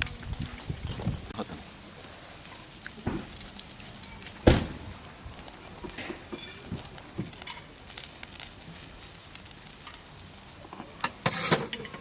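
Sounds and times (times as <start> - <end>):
food sizzling over campfire: 0.0 - 12.0.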